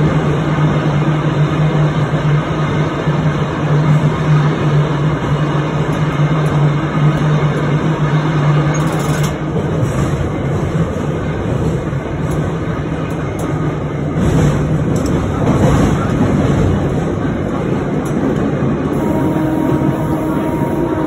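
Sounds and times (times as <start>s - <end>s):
rumble of wheels on track: 0.0s - 21.0s.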